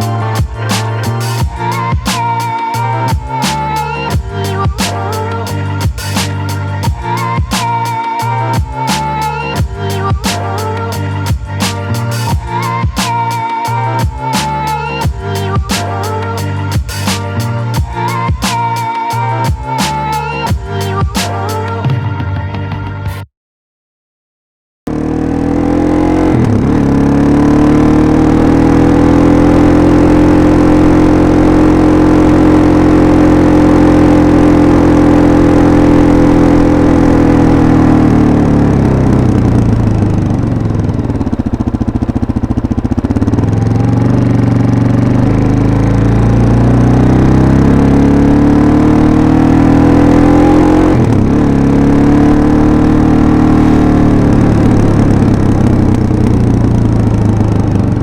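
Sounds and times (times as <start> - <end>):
motorcycle engine: 0.0 - 21.8, 24.9 - 58.0.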